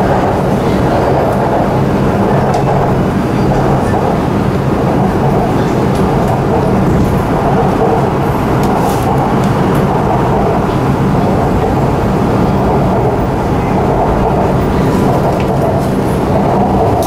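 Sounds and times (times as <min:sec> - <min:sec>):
train rumbling from inside carriage: 0:00.0 - 0:17.0.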